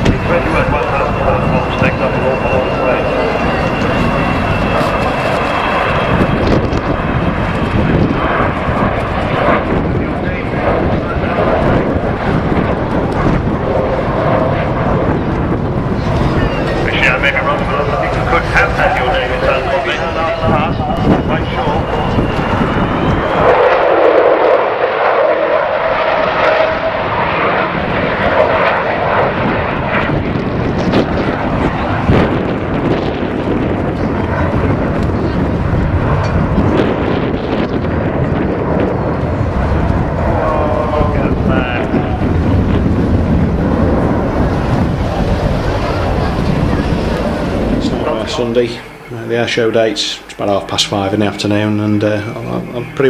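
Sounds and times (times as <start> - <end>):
jet engines rushing with whine: 0.0 - 53.0.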